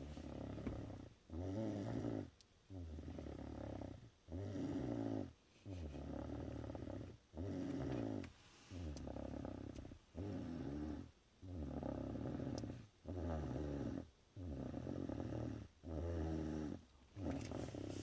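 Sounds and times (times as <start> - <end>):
person snoring: 0.0 - 18.0.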